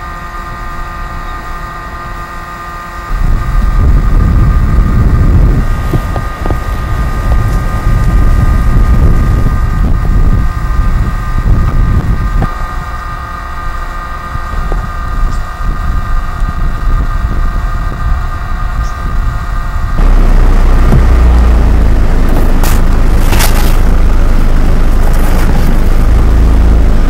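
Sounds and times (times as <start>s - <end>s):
steady high whine: 0.0s - 27.0s
wind buffeting microphone: 3.1s - 13.0s, 14.2s - 27.0s.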